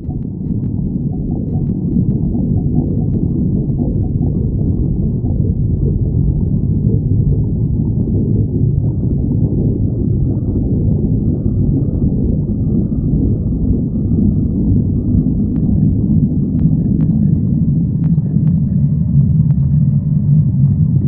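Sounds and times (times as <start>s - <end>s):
stomach growling: 0.0s - 21.0s.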